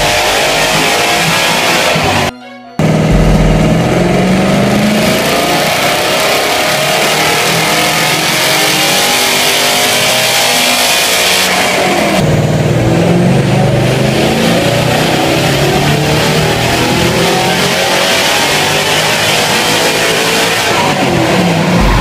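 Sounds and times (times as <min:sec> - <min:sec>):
car engine revving at full throttle: 0:00.0 - 0:22.0.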